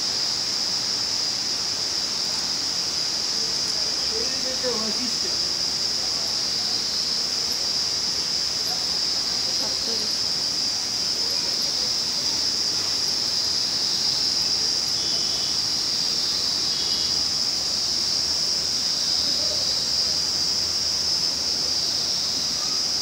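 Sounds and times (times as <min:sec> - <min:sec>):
high-pitched hiss: 0:00.0 - 0:23.0.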